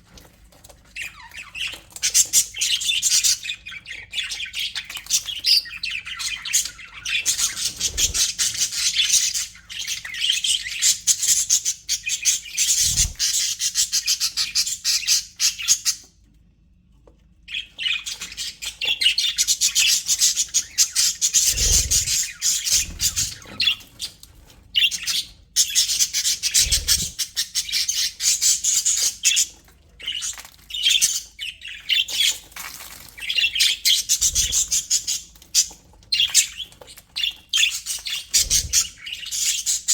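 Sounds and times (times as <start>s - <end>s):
budgerigars chattering and chirping: 0.9s - 16.0s, 17.5s - 24.2s, 24.8s - 32.5s, 33.2s - 39.9s.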